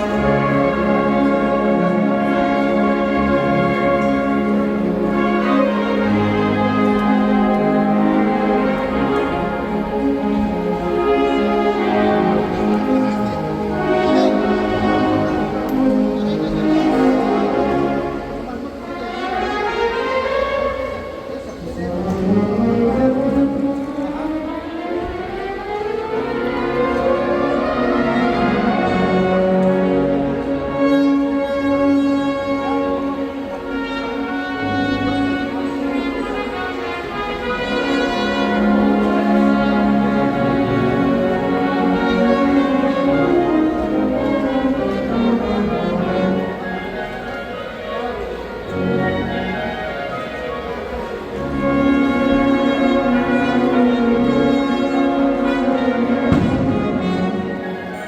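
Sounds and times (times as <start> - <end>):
wind band playing chords: 0.0 - 58.0.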